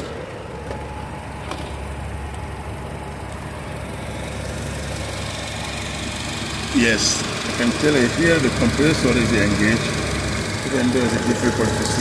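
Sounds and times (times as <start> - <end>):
air conditioning compressor running: 0.0 - 12.0
car engine idling: 0.0 - 12.0.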